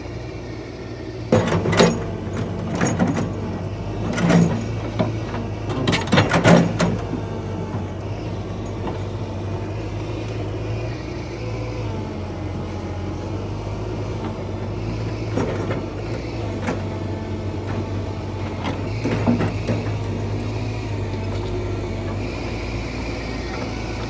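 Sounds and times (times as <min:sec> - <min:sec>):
diesel engine running steadily: 0:00.0 - 0:24.0.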